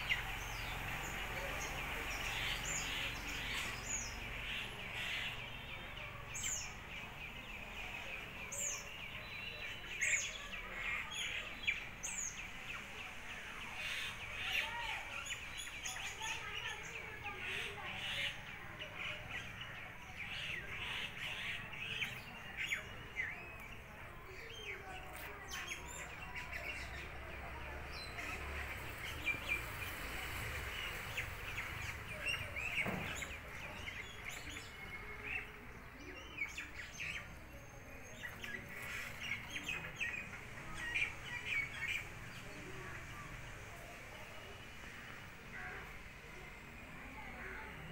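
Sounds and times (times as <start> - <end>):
faint outdoor background noise: 0.0 - 47.9
small birds chirping: 0.0 - 47.9.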